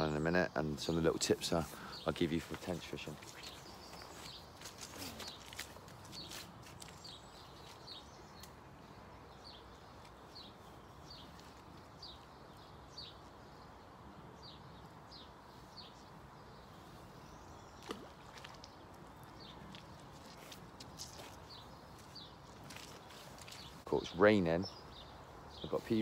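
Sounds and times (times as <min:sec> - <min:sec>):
low outdoor background noise: 0:00.0 - 0:26.0.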